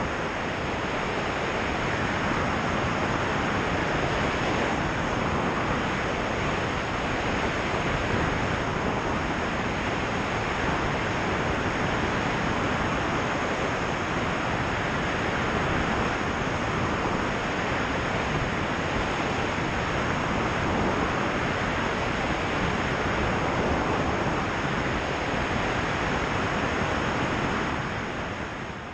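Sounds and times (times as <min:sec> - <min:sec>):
rushing wind noise: 0:00.0 - 0:28.9.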